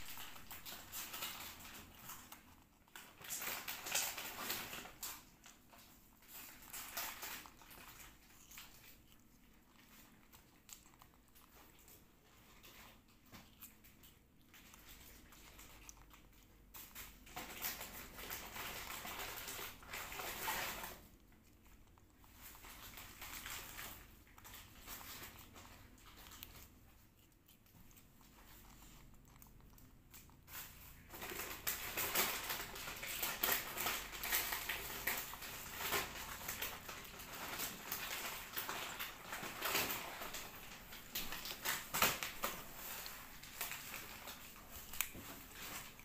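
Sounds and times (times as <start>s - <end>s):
monkey chewing fruit: 0.0s - 46.0s.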